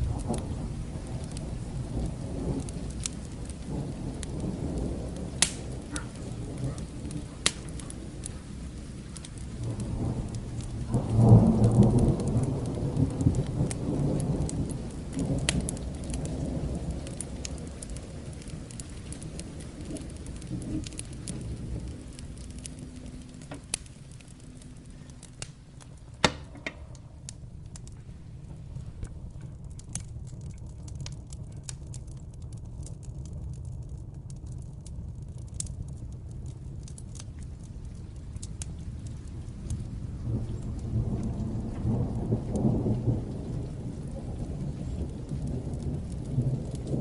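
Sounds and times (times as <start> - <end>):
crackling wood fire: 0.0 - 47.0
steady rain: 0.0 - 47.0
thunder rumbling: 0.0 - 47.0.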